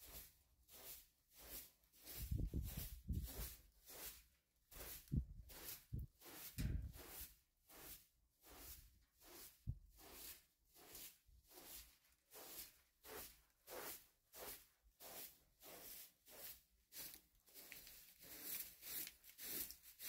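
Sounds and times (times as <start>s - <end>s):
straw broom sweeping carpet: 0.0s - 20.0s.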